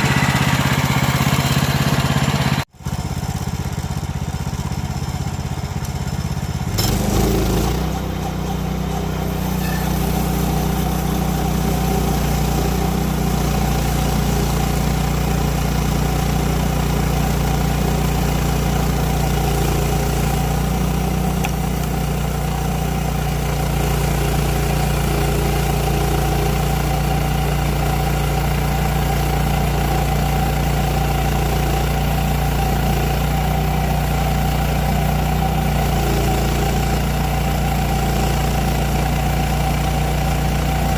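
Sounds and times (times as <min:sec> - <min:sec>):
sawmill gasoline engine running: 0:00.0 - 0:40.9.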